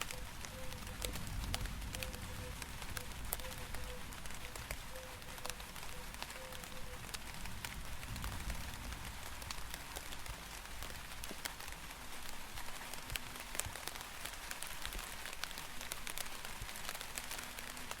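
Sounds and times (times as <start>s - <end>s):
rain drops pattering: 0.0s - 18.0s.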